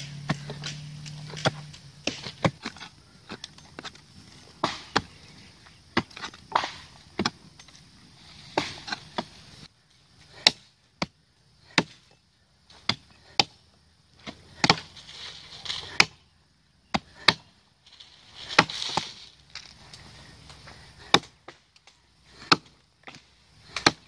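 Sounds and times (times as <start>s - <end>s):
mattocks chopping soil: 0.0s - 7.8s, 8.4s - 9.5s, 10.2s - 24.0s
dirt scraping: 0.0s - 24.0s.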